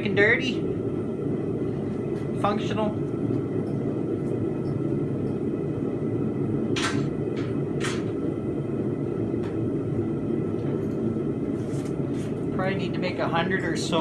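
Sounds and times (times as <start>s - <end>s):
forge roaring: 0.0s - 14.0s.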